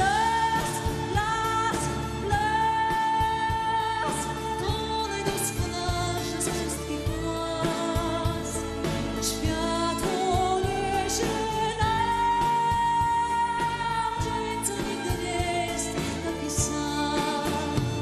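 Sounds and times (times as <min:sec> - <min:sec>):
band with drums: 0:00.0 - 0:18.0
woman singing: 0:00.0 - 0:18.0.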